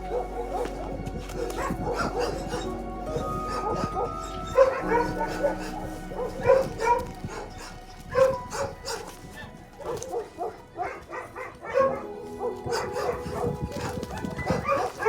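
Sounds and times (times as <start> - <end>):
background music: 0.0 - 15.0
dogs barking: 0.0 - 15.0.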